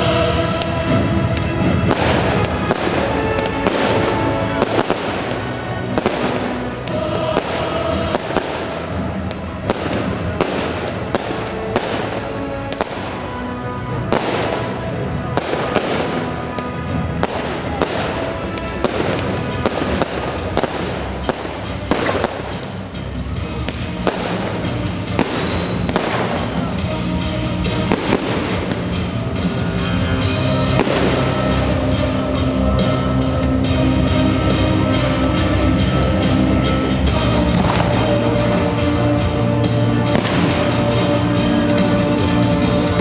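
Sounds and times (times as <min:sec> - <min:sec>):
fireworks bursting with sharp bangs: 0:00.0 - 0:43.0
loud epic-style music: 0:00.0 - 0:43.0.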